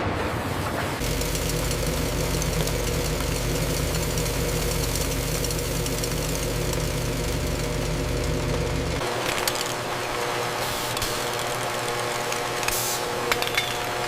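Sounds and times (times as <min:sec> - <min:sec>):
factory machine humming and ticking: 0:00.0 - 0:14.0.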